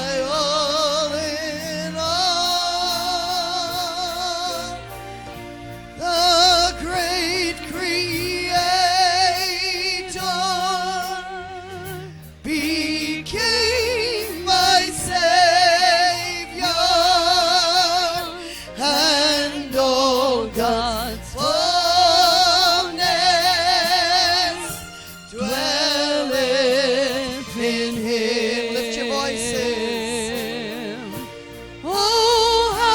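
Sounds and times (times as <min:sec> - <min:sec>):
woman singing worship song: 0:00.0 - 0:32.9.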